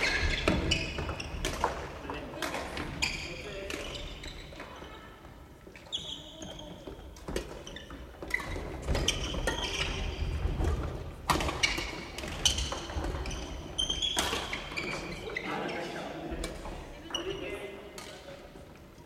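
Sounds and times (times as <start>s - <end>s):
sneakers squeaking on wooden floor: 0.0s - 17.8s.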